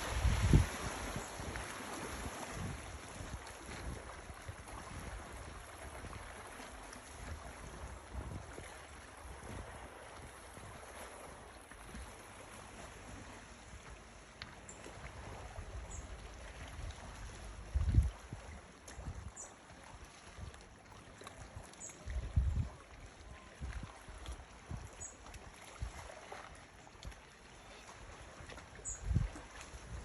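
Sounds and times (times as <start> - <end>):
sea water lapping: 0.0 - 30.0.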